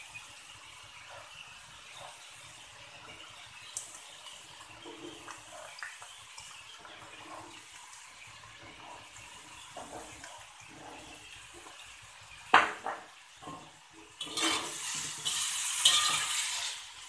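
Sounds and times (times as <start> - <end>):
chicken sizzling in a wok: 0.0 - 17.0.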